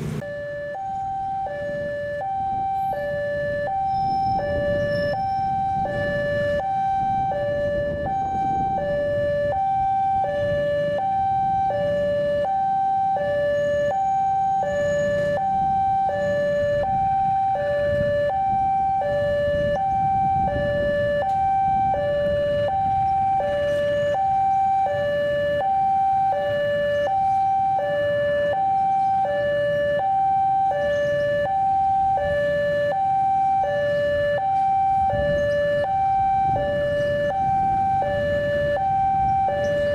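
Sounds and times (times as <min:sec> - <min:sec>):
diesel locomotive rumble: 0:00.0 - 0:39.9
two-tone railway warning alarm: 0:00.0 - 0:39.9.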